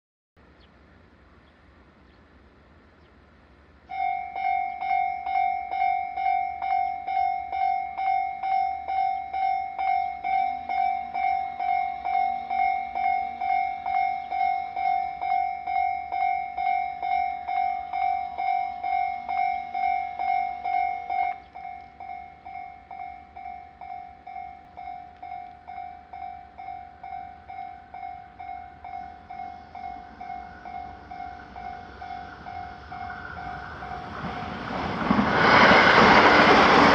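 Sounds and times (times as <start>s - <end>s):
level crossing alarm clanging: 3.9s - 36.9s.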